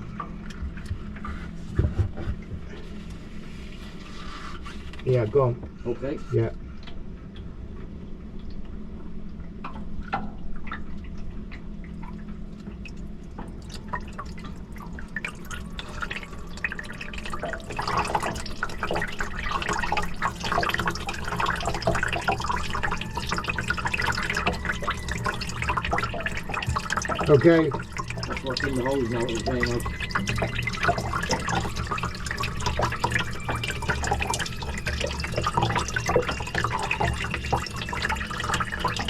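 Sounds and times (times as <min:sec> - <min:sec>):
steady low hum: 0:00.0 - 0:39.0
liquid dripping and trickling: 0:06.7 - 0:39.0.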